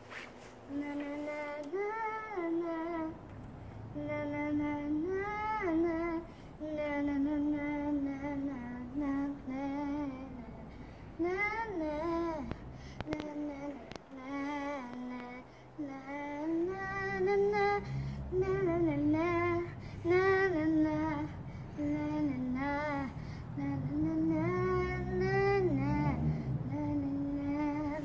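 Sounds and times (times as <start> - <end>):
girl singing: 0.7 - 28.0.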